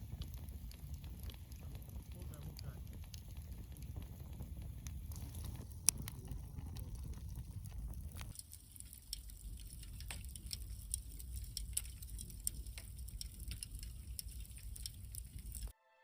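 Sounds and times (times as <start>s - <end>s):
campfire crackling and popping: 0.0s - 15.7s
low rumble: 0.0s - 15.7s.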